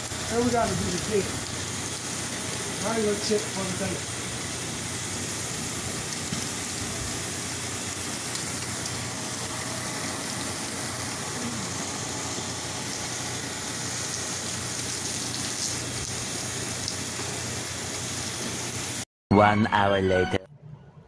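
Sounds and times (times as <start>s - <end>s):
pressure washer engine hum: 0.0s - 19.0s
pressure washer spray hissing: 0.0s - 19.0s.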